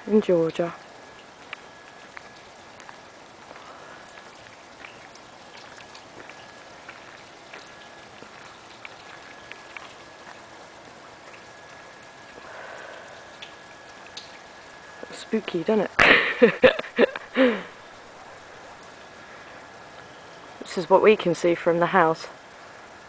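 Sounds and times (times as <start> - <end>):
rain falling: 0.0 - 23.0
sharp ticks of raindrops: 0.0 - 23.0.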